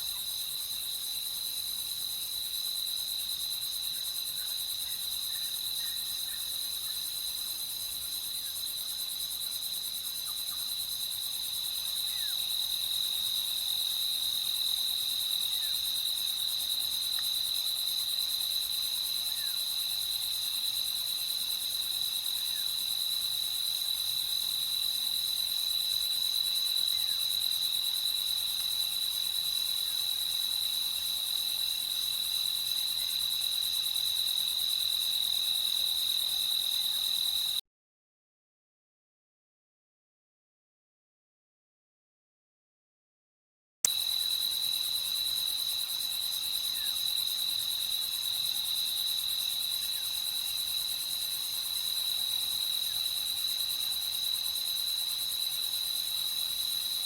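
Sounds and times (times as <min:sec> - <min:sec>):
crickets chirping: 0:00.0 - 0:37.6, 0:43.9 - 0:57.0.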